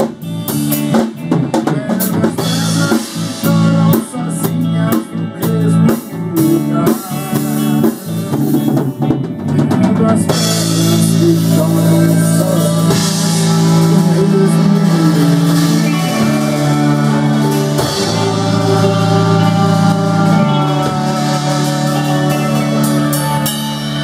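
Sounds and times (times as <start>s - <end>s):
band playing held chords: 0.0s - 24.0s.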